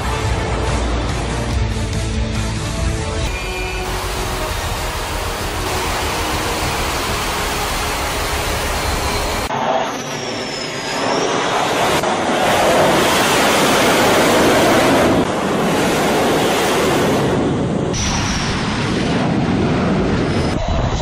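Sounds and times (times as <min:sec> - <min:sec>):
high jet whine: 0:03.3 - 0:21.0
jet engine noise: 0:03.3 - 0:21.0.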